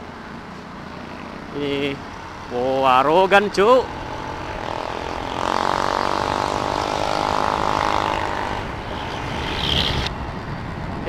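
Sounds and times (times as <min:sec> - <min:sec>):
road rush: 0:00.0 - 0:11.0
vehicle engine drone: 0:00.0 - 0:11.0
wind: 0:00.0 - 0:11.0.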